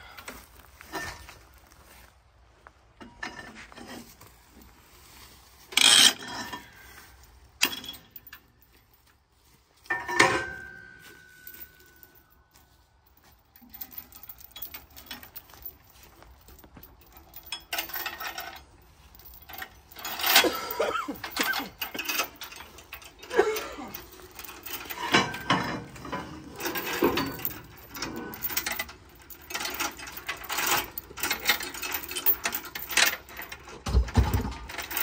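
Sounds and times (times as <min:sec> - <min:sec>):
chains clanking against steel stakes: 0:00.0 - 0:02.0, 0:03.0 - 0:35.0
chain rattling: 0:00.1 - 0:02.0, 0:03.0 - 0:35.0.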